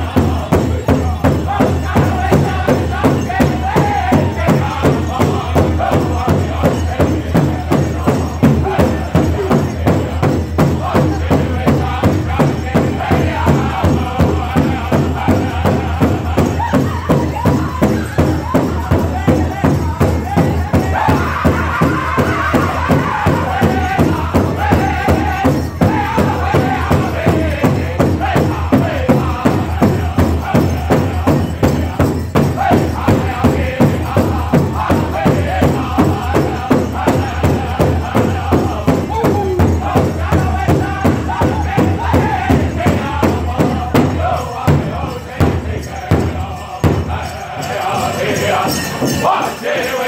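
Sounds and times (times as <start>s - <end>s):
large drum beaten steadily: 0.0s - 50.0s
singers chanting: 0.0s - 50.0s.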